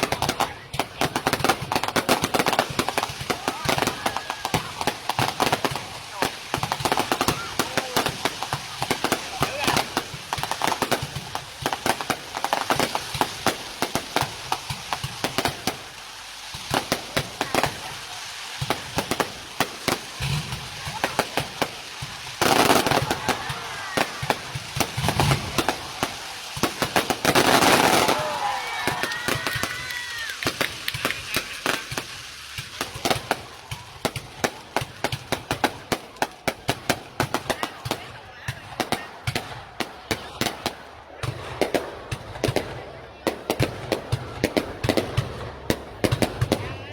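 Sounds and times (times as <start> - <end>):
fireworks cracking and popping: 0.0 - 46.9.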